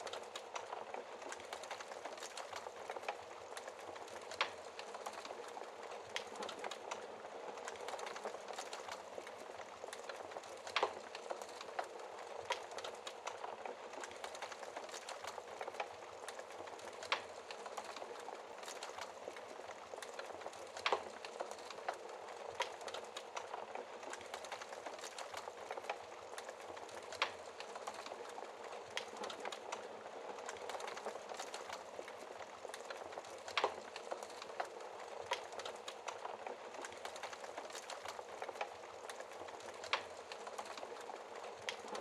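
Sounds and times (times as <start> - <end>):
fire pops: 0.0 - 42.0
wood fire crackling: 0.0 - 42.0.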